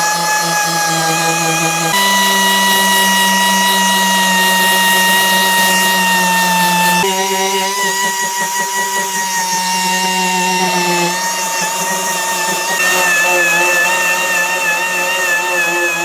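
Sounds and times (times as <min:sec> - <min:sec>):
electric power tool whining: 0:00.0 - 0:16.0.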